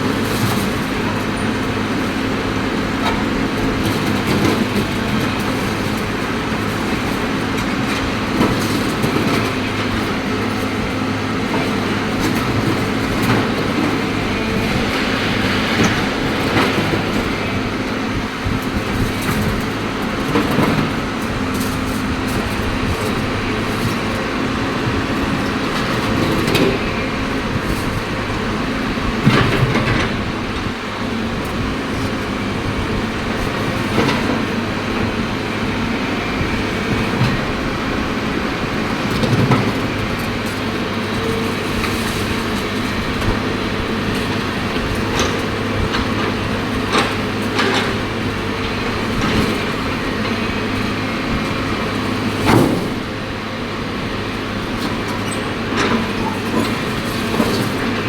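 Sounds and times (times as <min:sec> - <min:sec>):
excavator diesel engine running: 0:00.0 - 0:58.0
heavy knocks and clanks: 0:02.9 - 0:53.2.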